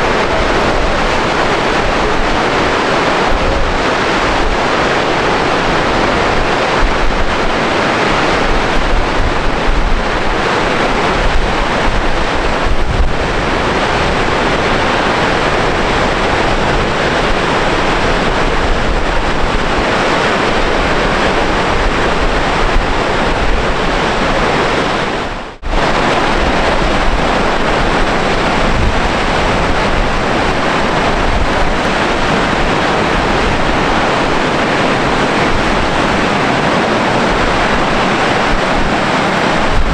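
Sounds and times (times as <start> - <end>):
waterfall rushing: 0.0 - 39.9
wind rumbling on microphone: 0.0 - 39.9.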